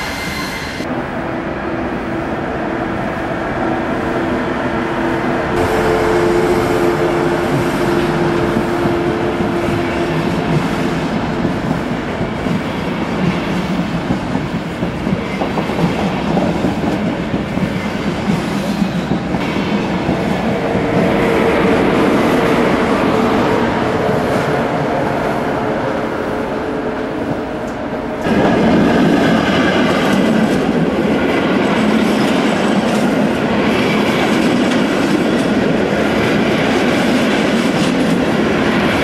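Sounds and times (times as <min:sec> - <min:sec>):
train wheels rumbling and clattering: 0:02.3 - 0:39.0.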